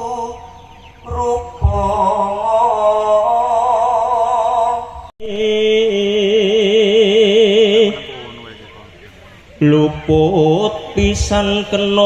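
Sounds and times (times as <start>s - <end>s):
solo voice chanting with vibrato: 0.0s - 12.0s.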